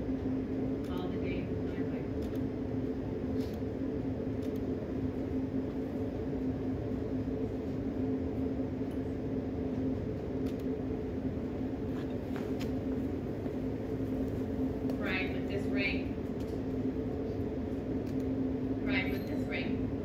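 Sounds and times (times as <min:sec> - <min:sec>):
steady low two-tone hum: 0:00.0 - 0:20.0.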